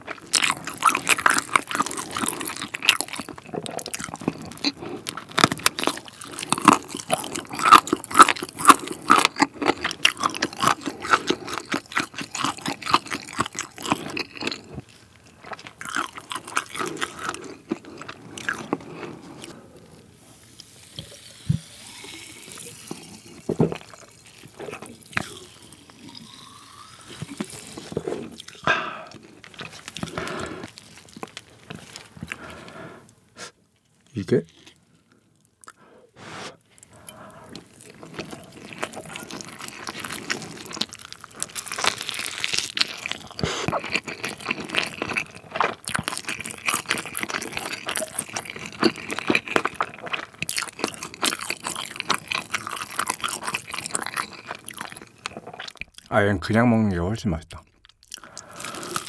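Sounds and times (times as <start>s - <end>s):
crunching and chewing fried chicken: 0.0s - 35.9s, 36.6s - 56.2s, 57.4s - 59.0s.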